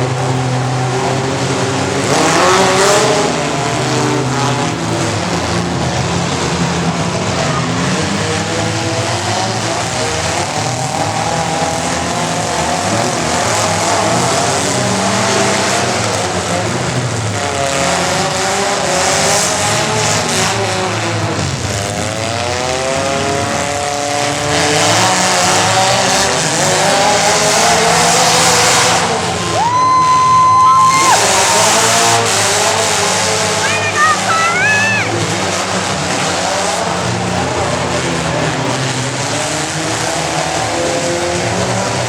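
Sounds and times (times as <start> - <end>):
truck engine revving hard: 0.0 - 42.0.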